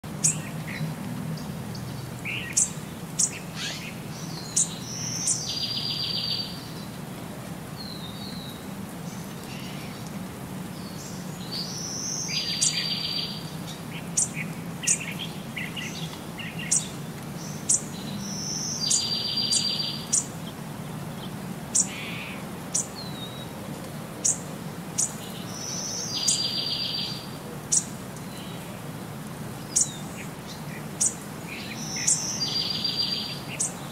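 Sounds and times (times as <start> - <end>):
birds chirping: 0.2 - 7.0, 7.8 - 23.6, 24.2 - 28.7, 29.6 - 33.9.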